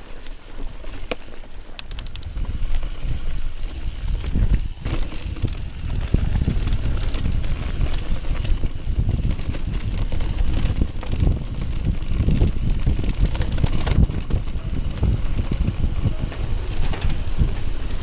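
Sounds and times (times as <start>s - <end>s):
bike rattling over bumps: 0.0s - 18.0s
bike tyres rumbling: 0.0s - 18.0s
wind buffeting microphone: 0.0s - 18.0s.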